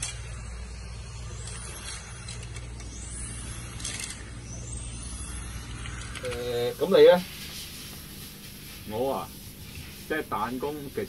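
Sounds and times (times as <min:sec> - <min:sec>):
rc car motors whining: 0:00.0 - 0:11.0
steady low hum: 0:00.0 - 0:11.0.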